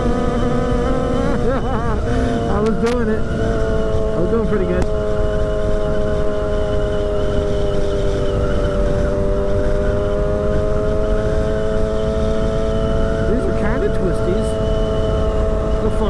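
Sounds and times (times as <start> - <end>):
motorcycle engine at high speed: 0.0 - 16.0
wind rush on microphone: 0.0 - 16.0.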